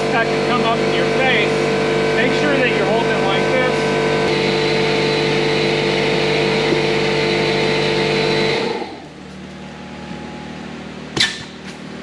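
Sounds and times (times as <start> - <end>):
air compressor motor running: 0.0 - 12.0.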